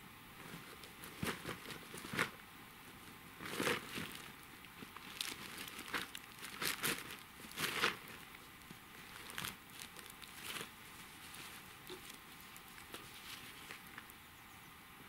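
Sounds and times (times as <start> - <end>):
bag rustling and crinkling: 0.4 - 14.1.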